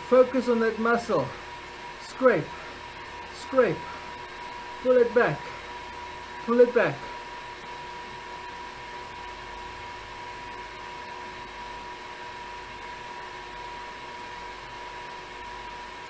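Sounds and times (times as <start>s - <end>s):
bike trainer whirring: 0.0s - 16.0s.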